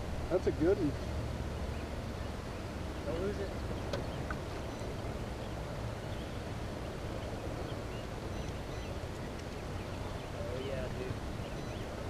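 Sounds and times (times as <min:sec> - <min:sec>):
wind rumble on microphone: 0:00.0 - 0:12.0
faint bird chirps: 0:01.5 - 0:12.0.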